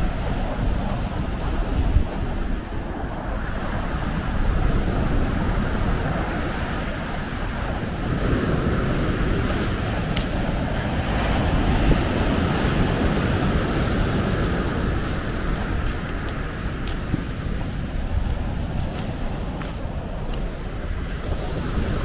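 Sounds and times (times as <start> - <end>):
waves breaking on beach: 0.0 - 22.0
wind rumbling on microphone: 0.0 - 22.0.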